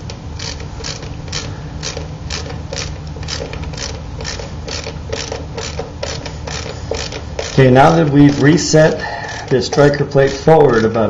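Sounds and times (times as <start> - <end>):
screwdriver scraping squeak: 0.4 - 11.0.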